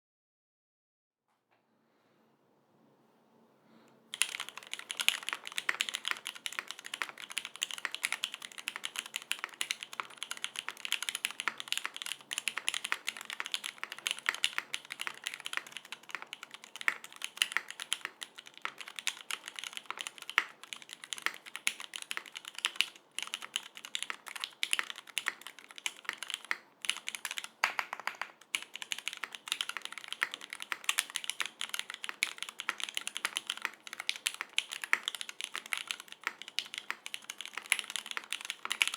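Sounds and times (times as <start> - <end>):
mechanical keyboard typing: 4.1 - 38.9.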